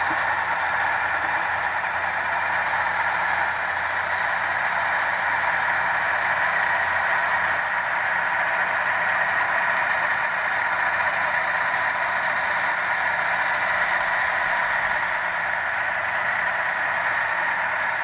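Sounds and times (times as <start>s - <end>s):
model locomotive diesel engine sound: 0.0s - 18.0s.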